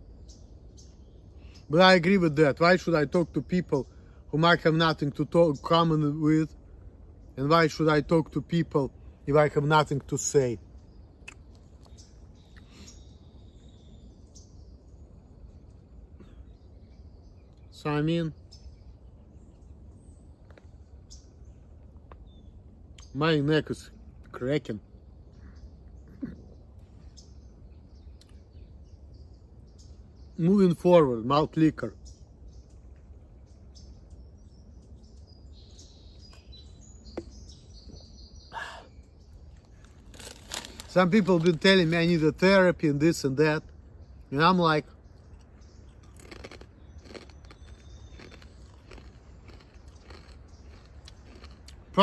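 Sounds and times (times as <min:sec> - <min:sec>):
faint bird chirp: 0:00.0 - 0:52.0
low outdoor rumble: 0:00.0 - 0:52.0.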